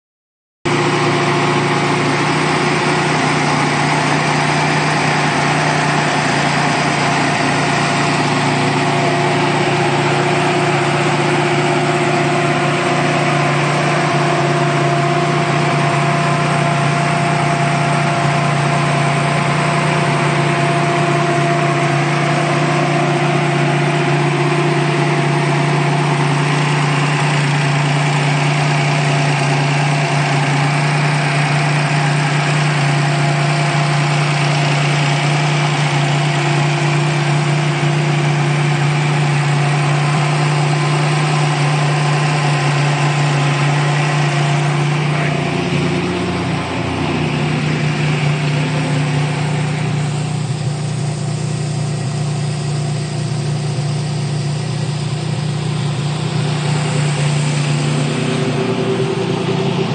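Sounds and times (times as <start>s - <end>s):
car engine idling: 0.7s - 59.9s.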